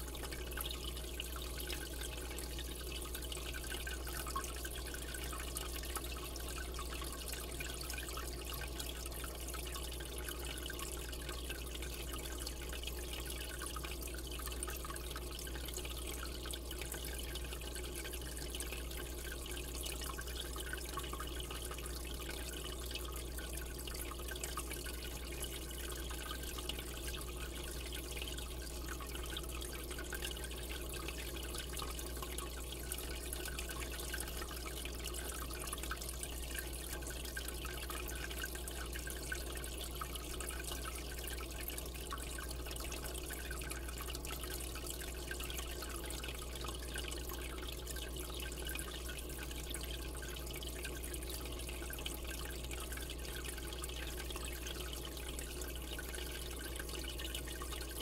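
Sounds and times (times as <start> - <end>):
low steady hum: 0.0 - 58.0
water trickling and splashing: 0.0 - 58.0.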